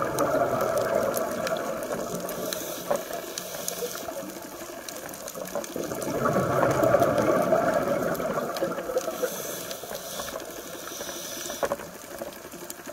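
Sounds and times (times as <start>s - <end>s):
underwater bubbles gurgling: 0.0s - 12.9s.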